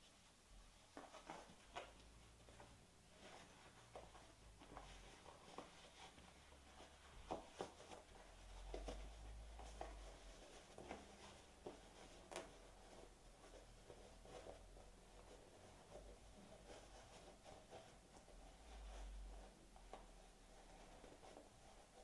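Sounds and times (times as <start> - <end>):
fabric rustling: 0.0 - 22.0.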